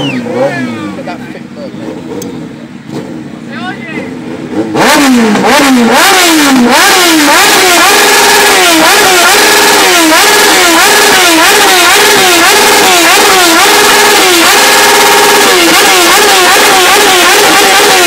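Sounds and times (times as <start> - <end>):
motorcycle engine revving hard: 0.0 - 3.4, 4.0 - 18.0.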